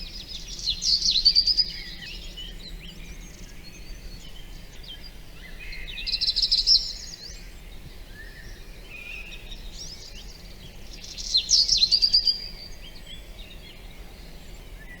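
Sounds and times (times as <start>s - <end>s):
birds singing and chirping: 0.0s - 15.0s.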